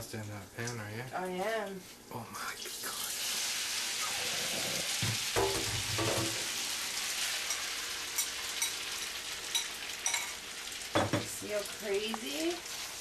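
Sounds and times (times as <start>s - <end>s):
pasta sizzling in a frying pan: 0.0s - 13.0s.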